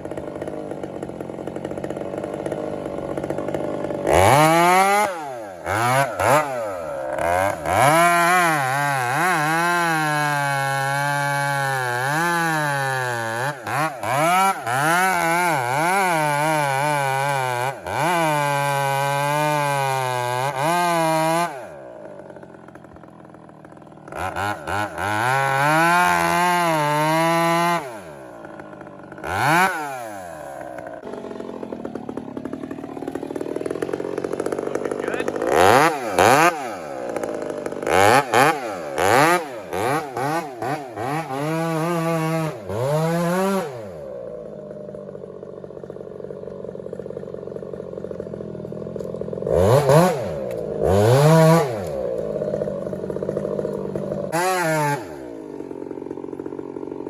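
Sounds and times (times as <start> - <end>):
chainsaw revving and cutting wood: 0.0 - 57.0.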